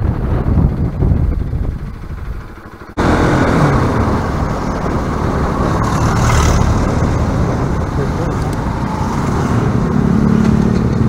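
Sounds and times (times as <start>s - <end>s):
motorcycle engine running: 0.0s - 11.0s
wind and road rush: 0.0s - 11.0s.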